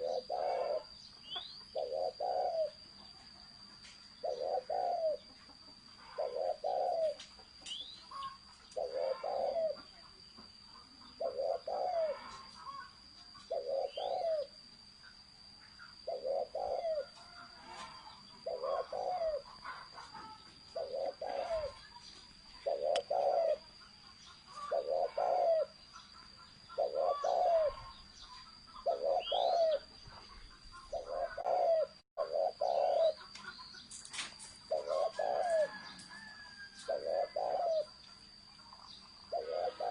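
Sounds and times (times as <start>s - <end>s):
dove cooing: 0.0s - 2.9s, 4.2s - 5.4s, 6.0s - 10.0s, 11.0s - 14.6s, 15.8s - 33.6s, 34.6s - 38.0s, 39.3s - 39.9s
faint bird chirps: 0.0s - 39.9s.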